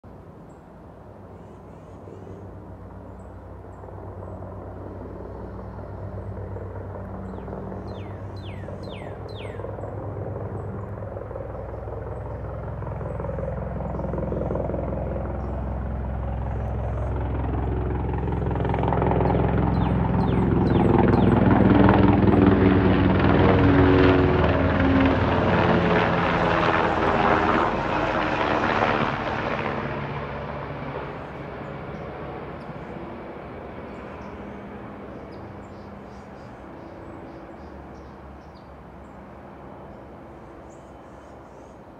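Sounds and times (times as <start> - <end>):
helicopter passing overhead: 0.1 - 41.9.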